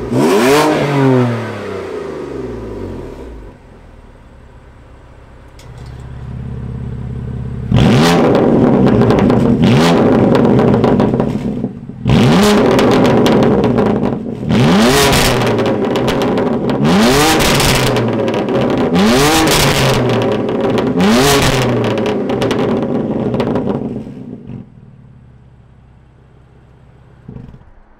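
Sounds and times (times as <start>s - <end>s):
car engine idling: 0.0s - 27.9s
car engine revving: 0.0s - 27.9s
exhaust crackles and pops: 3.5s - 25.1s, 26.6s - 27.9s.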